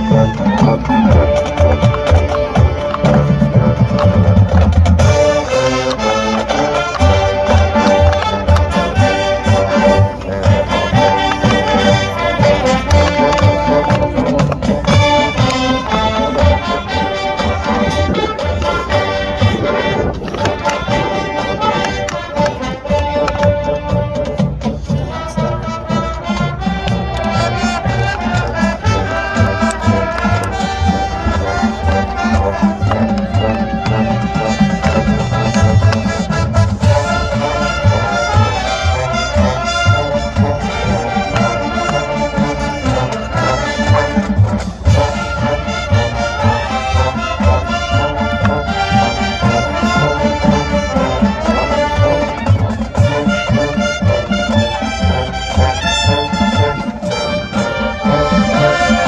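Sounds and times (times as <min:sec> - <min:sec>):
low drum beat: 0:00.0 - 0:59.0
marching band wind melody: 0:00.0 - 0:59.0.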